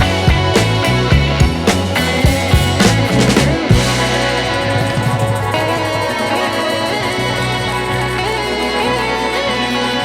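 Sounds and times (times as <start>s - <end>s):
instrumental music with bass line: 0.0s - 10.0s.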